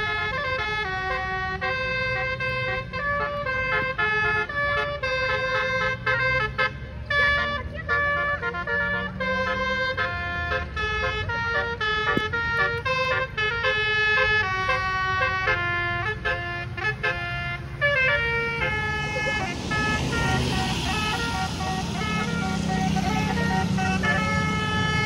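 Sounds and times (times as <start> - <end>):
bus engine rumble: 0.0 - 25.0
multi-tone air horn melody: 0.0 - 25.0.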